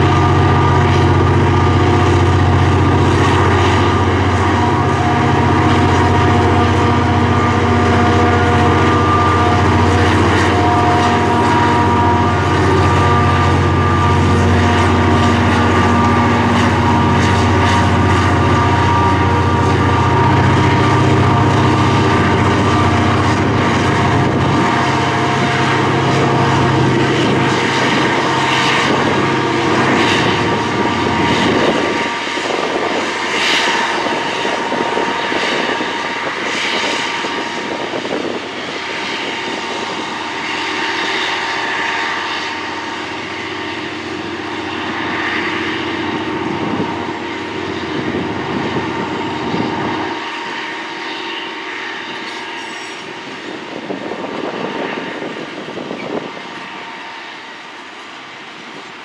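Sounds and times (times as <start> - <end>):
locomotive engine drone: 0.0 - 59.0
locomotive whine: 0.0 - 59.0.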